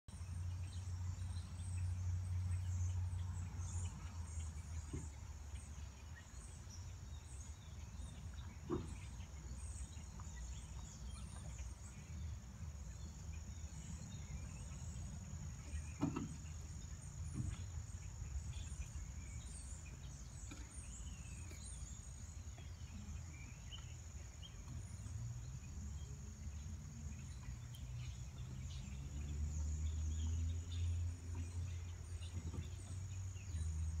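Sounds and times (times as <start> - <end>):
insect chorus: 0.2 - 34.0.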